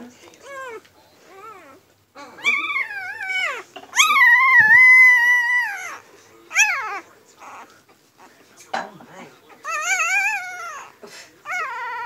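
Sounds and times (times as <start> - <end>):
puppy crying: 0.4 - 8.3, 9.5 - 12.0.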